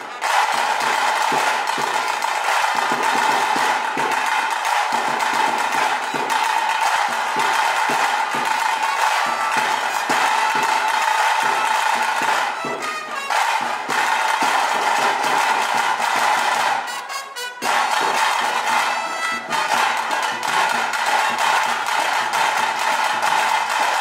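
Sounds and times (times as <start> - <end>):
loud music with brass horn line: 0.0 - 24.0.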